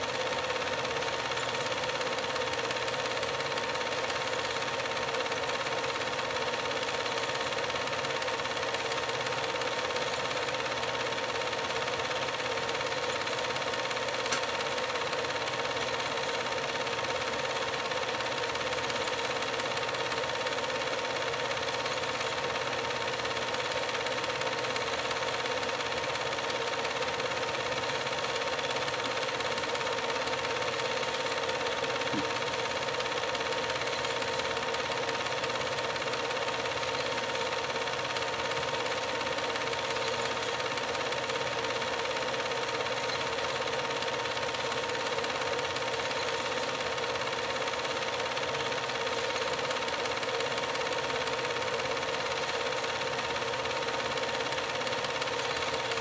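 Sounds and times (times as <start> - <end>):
mechanical running noise with whine: 0.0 - 56.0.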